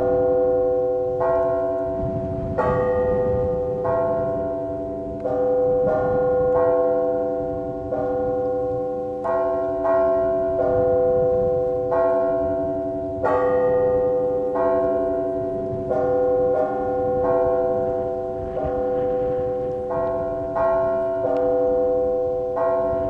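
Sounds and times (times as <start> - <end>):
church bells pealing: 0.0 - 23.0
steady low bell tone: 0.0 - 23.0.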